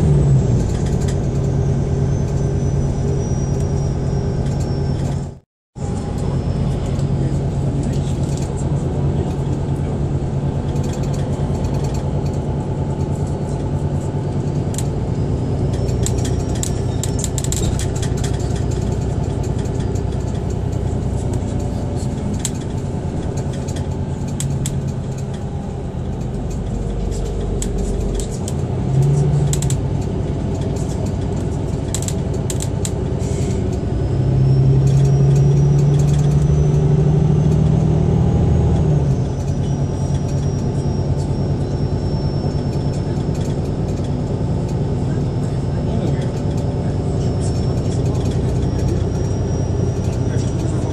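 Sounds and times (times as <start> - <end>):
bus engine hum: 0.0 - 50.9
rattles and clicks from bus body: 0.0 - 50.9.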